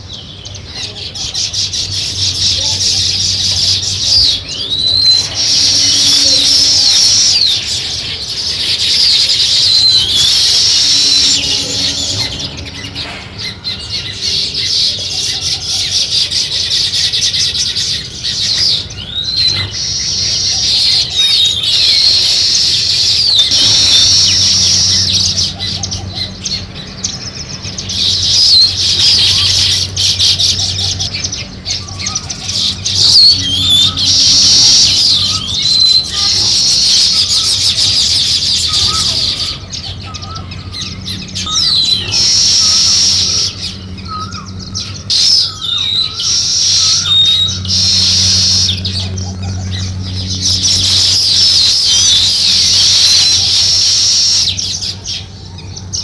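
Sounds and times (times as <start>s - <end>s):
low steady hum: 0.0s - 56.0s
sparrows chirping: 0.0s - 56.0s.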